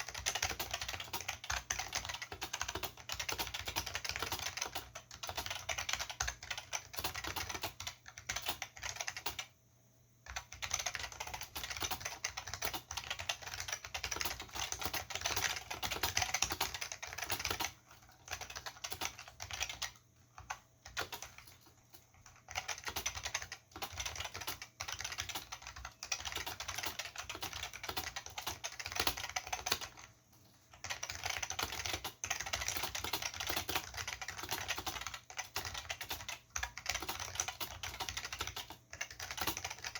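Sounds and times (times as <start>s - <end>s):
mechanical keyboard typing: 0.0s - 9.6s, 10.2s - 39.9s.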